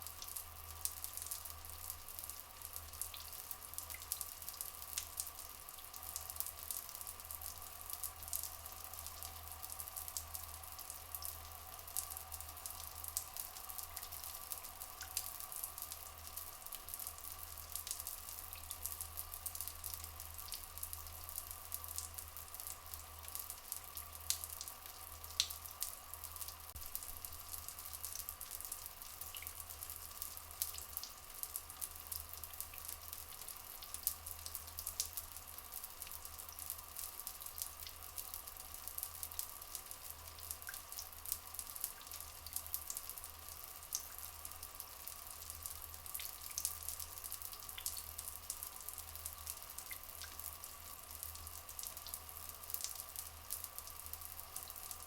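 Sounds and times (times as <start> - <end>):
trickling flowing water: 0.0 - 55.0
water drips: 0.0 - 55.0.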